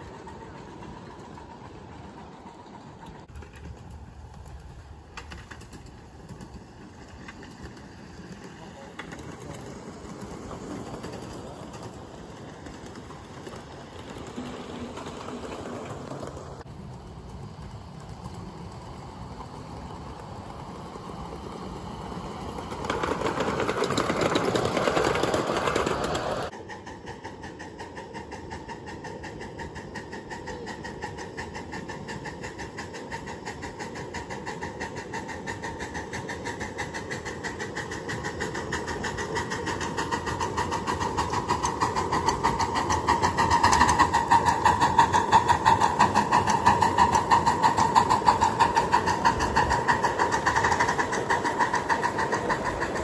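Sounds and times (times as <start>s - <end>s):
miniature diesel locomotive passing: 0.0s - 53.0s
steam locomotive rapid beat: 0.0s - 53.0s.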